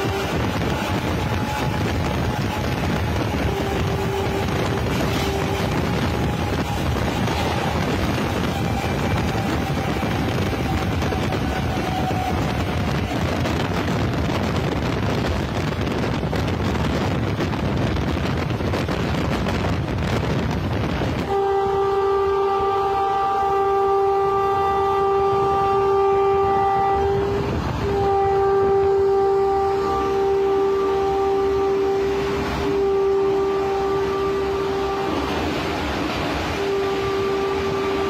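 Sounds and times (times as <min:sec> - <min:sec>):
locomotive horn blast: 0:00.0 - 0:17.5, 0:20.5 - 0:38.0
trains rumbling and rattling: 0:00.0 - 0:38.0.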